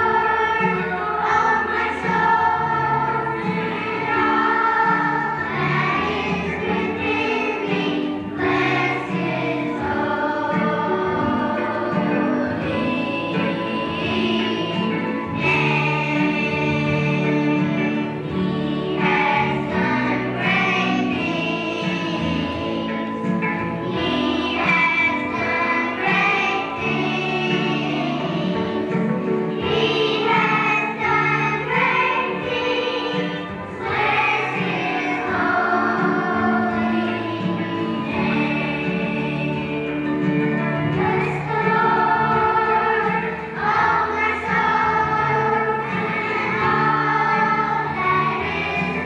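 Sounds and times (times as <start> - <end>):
children's choir singing: 0.0 - 49.0
instrumental accompaniment: 0.0 - 49.0.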